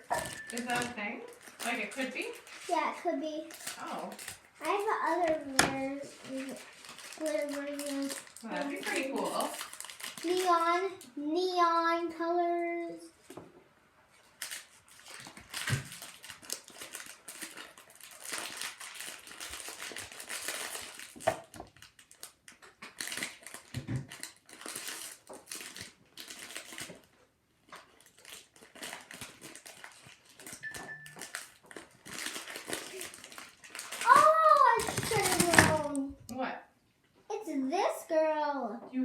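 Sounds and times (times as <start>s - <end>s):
plastic wrapping crinkling: 0.0s - 11.1s, 14.1s - 36.2s.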